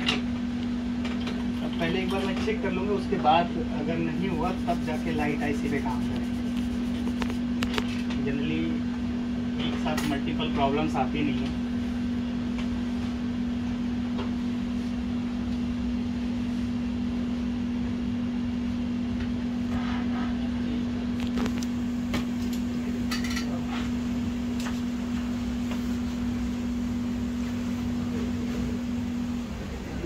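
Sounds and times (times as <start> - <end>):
steady electric motor hum: 0.0 - 30.0.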